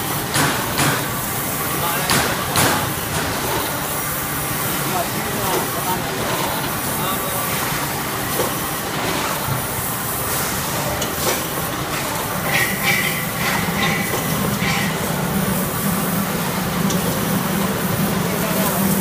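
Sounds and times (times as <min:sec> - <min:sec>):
cutting machine running with hiss: 0:00.0 - 0:19.0.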